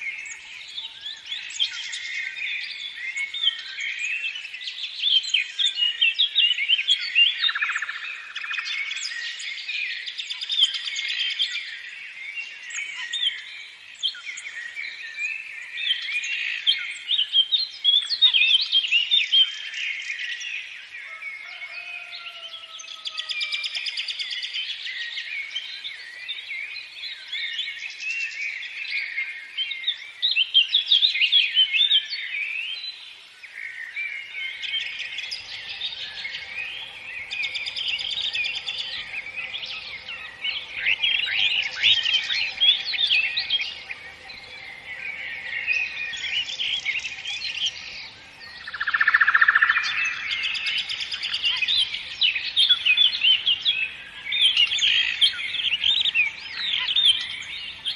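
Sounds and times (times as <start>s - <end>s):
songbirds chirping: 0.0s - 57.9s.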